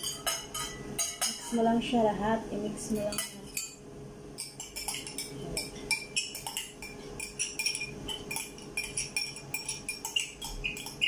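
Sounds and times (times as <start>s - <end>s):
utensil clinking in glass bowl: 0.0s - 1.6s, 3.0s - 3.8s, 4.4s - 11.0s.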